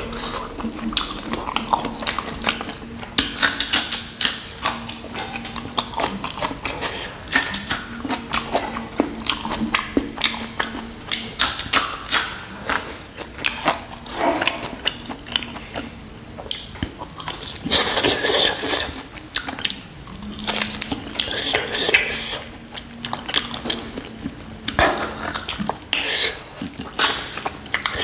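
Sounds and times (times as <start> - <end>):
lip smacks: 0.0 - 28.0
wet chewing: 0.0 - 28.0.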